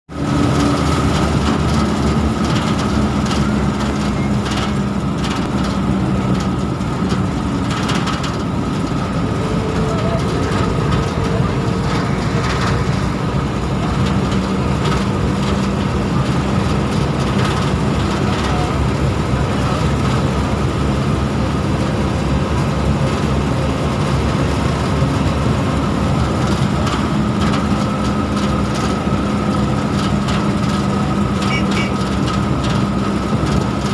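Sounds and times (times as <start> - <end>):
road noise: 0.1 - 33.9
vehicle engine running: 0.1 - 33.9.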